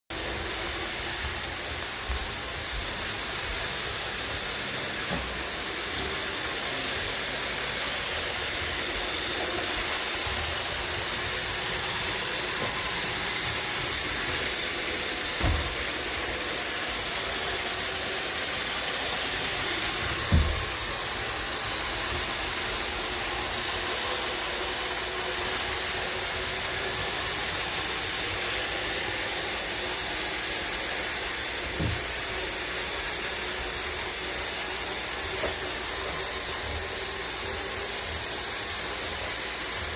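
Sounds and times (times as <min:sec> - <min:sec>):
robot vacuum whirring: 0:00.2 - 0:39.9.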